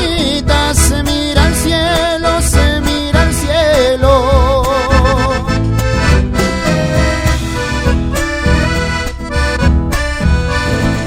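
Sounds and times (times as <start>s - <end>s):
accordion folk music: 0.0s - 11.0s
bass line: 0.0s - 11.0s
percussive beats: 0.0s - 11.0s.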